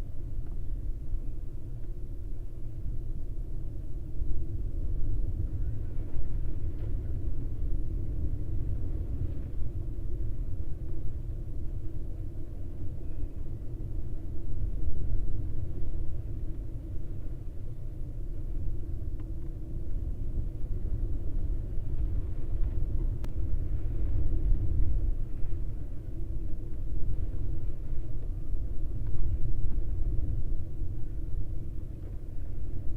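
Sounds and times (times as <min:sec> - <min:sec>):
low rumble: 0:00.0 - 0:32.9.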